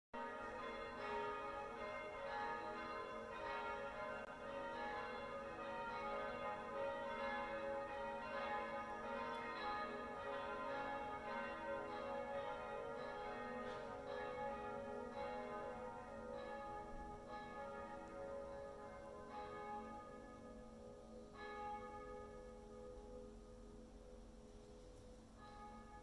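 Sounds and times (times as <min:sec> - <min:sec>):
church bells ringing: 0:00.2 - 0:26.0.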